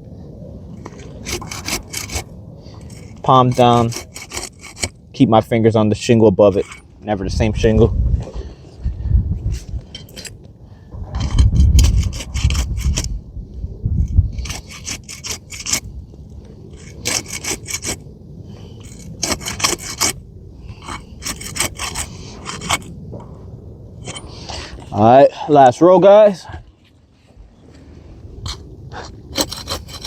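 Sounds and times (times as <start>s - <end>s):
tool scraping under shingles: 0.7s - 5.1s, 6.0s - 13.2s, 14.0s - 23.4s, 24.0s - 25.0s, 26.7s - 30.0s.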